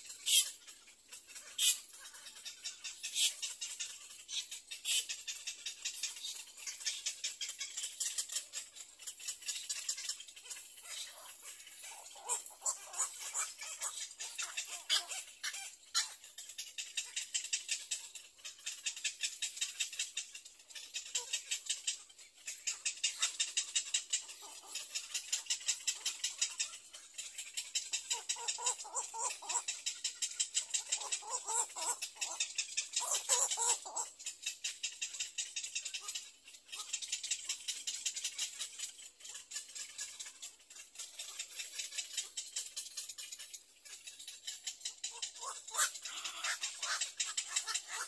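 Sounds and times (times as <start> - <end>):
fast ticking animal calls: 0.0 - 48.0.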